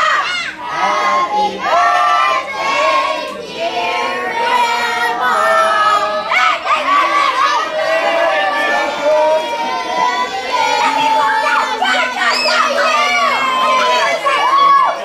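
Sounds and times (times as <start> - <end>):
group singing together: 0.0 - 15.0.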